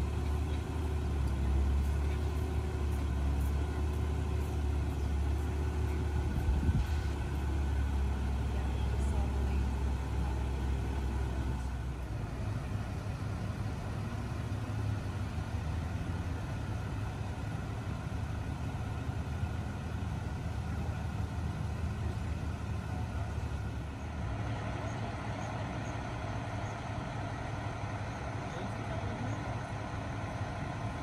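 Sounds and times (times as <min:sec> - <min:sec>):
vehicle engines idling: 0:00.0 - 0:31.0.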